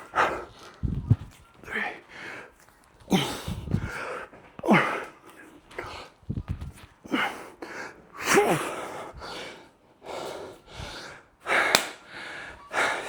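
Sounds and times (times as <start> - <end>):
man breathing hard: 0.0 - 6.4, 7.0 - 13.0.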